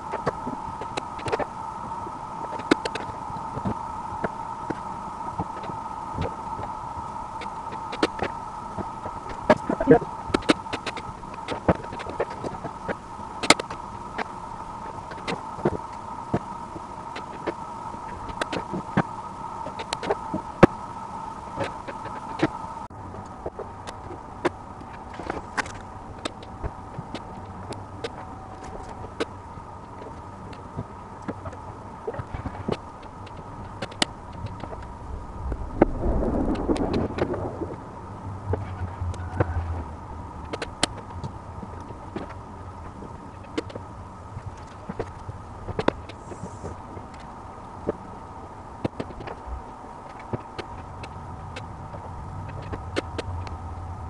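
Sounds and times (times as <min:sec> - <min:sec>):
steady high whine: 0:00.0 - 0:54.0.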